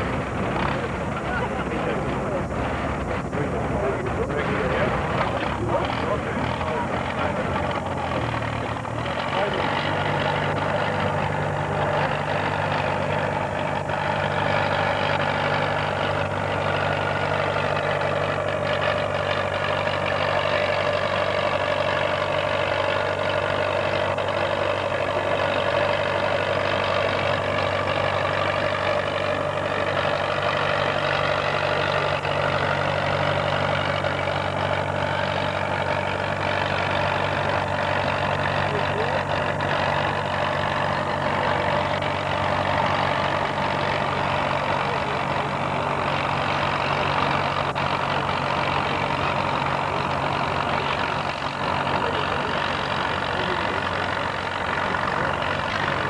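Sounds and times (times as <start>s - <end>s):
tractor engine under heavy load: 0.0s - 56.0s.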